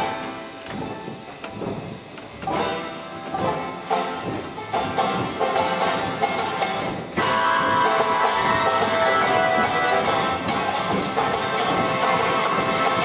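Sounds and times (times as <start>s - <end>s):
acoustic guitar: 0.0s - 13.0s
upright bass: 1.1s - 13.0s
accordion: 2.6s - 13.0s.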